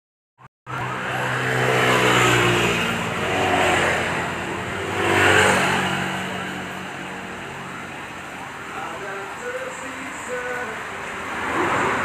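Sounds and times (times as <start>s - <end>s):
hiss of passing traffic: 0.8s - 12.0s.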